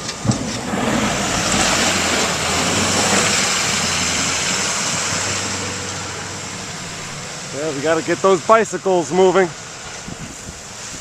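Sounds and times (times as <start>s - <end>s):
vehicle engine humming: 0.0s - 11.0s
loud rushing noise: 0.2s - 11.0s.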